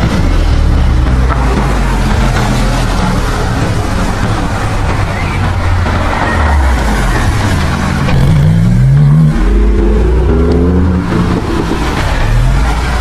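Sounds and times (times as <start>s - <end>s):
sports car engine revving: 0.0s - 13.0s.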